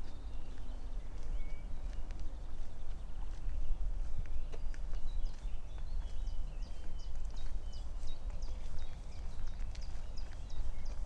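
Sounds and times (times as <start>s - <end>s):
footsteps on woodland path: 0.0s - 11.0s
small birds chirping: 0.0s - 11.0s.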